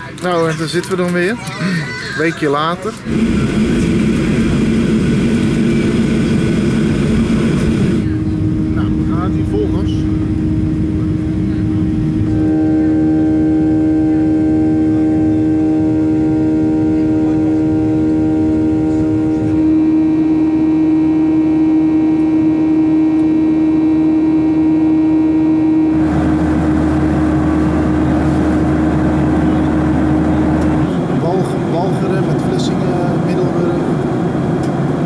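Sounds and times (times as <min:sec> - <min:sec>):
jet engines heard from cabin: 0:02.7 - 0:35.0.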